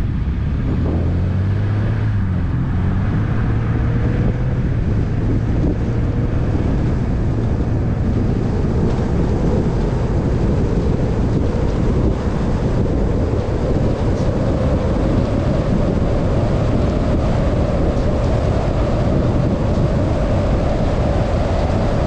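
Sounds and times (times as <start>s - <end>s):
rally car engine pulling: 0.0s - 22.0s
tyre and road noise: 0.0s - 22.0s.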